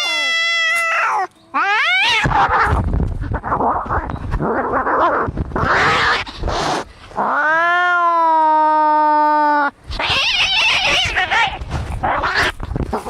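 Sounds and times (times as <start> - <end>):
cat yowling: 0.0 - 2.8, 3.4 - 6.6, 7.2 - 13.0
cats hissing and spitting: 0.0 - 7.4, 9.9 - 13.0.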